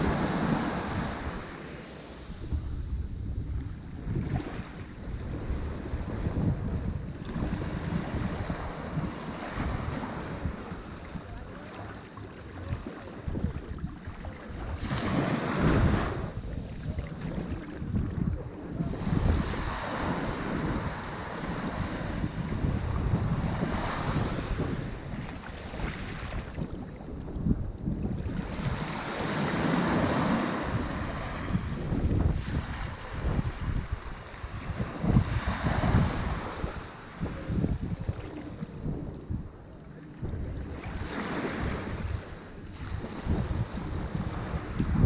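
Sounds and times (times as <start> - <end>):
ocean waves breaking on shore: 0.0 - 45.0
wind rumble on microphone: 0.0 - 45.0.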